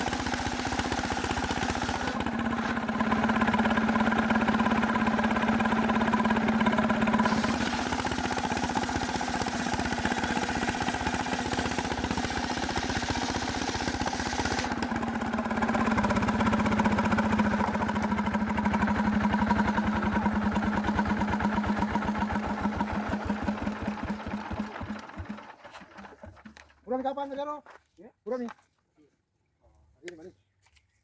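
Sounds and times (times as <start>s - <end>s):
small petrol engine running: 0.0s - 26.7s.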